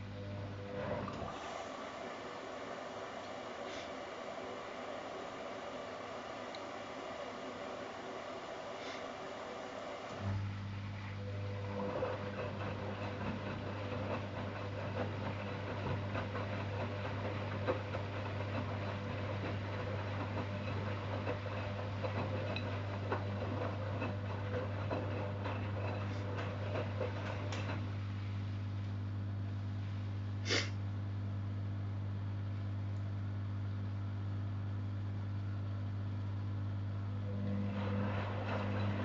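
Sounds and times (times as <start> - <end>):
washer-dryer humming: 0.0 - 39.0.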